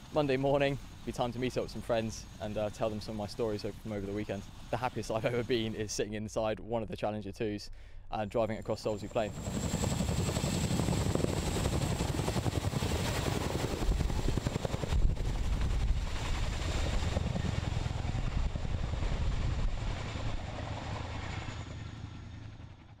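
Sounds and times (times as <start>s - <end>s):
helicopter rotors beating: 0.0s - 6.0s, 8.4s - 23.0s
helicopter high whine: 0.0s - 6.3s, 8.3s - 23.0s.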